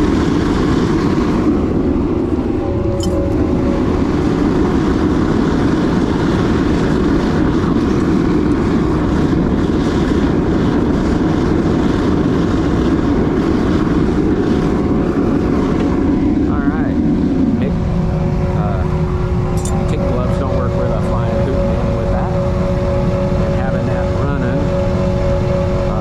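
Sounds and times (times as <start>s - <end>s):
furnace burner roaring: 0.0s - 26.0s.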